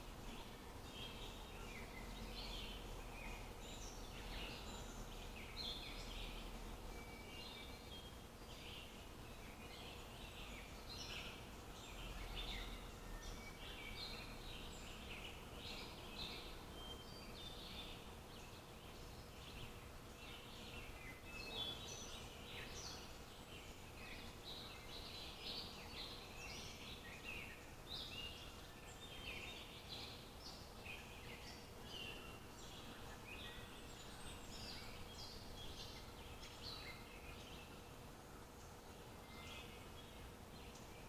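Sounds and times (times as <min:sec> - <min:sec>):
background hiss: 0:00.0 - 0:41.0
small birds chirping: 0:00.0 - 0:41.0.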